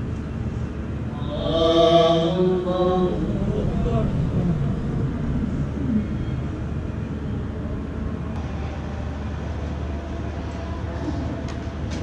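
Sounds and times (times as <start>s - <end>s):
congregation background noise: 0.0s - 12.0s
low hum: 0.0s - 12.0s.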